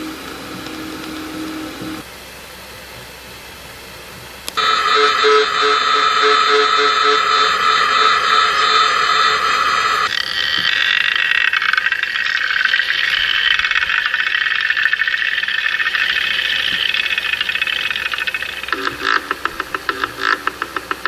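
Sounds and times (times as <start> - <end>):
electronic high-tone drone: 0.0 - 2.0, 4.6 - 21.0.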